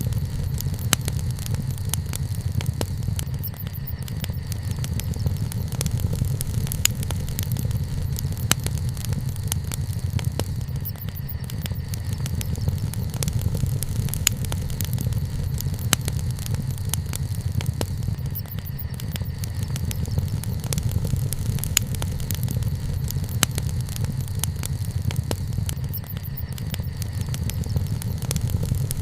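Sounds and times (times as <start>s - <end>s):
bonfire crackling and popping: 0.0s - 29.0s.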